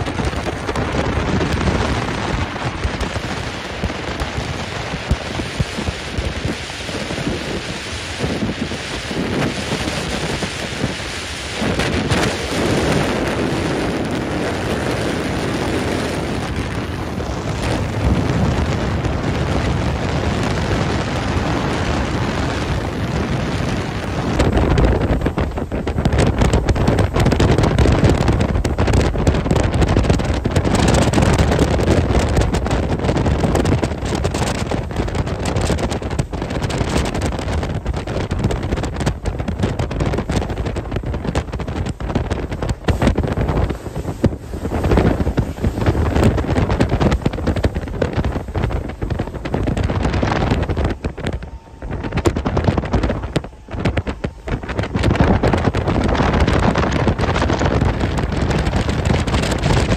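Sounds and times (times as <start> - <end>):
boat and water noise: 0.0 - 59.9
wind buffeting microphone: 0.0 - 59.9.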